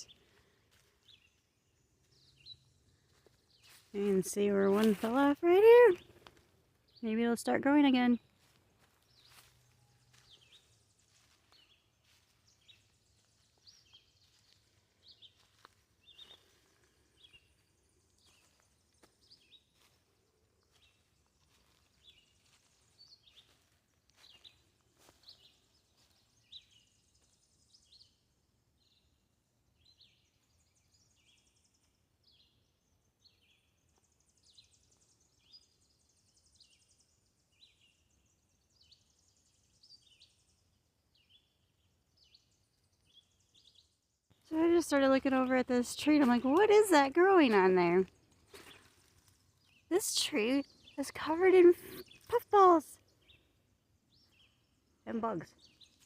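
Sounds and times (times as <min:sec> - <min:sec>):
faint bird chirps: 0:08.1 - 0:56.0.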